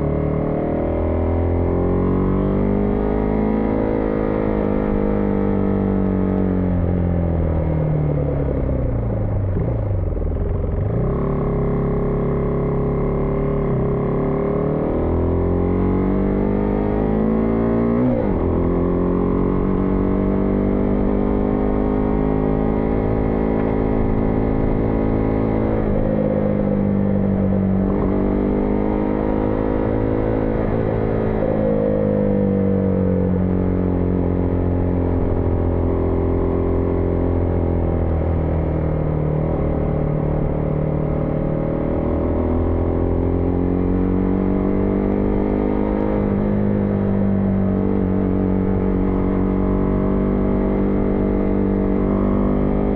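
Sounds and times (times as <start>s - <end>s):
motorcycle engine with gear shifts: 0.0s - 52.9s.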